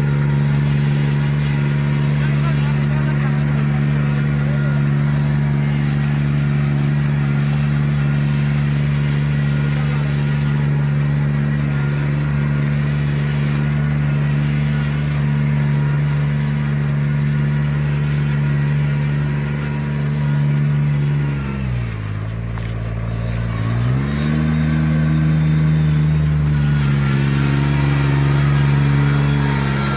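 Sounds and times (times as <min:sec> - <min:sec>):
engine humming steadily: 0:00.0 - 0:29.9.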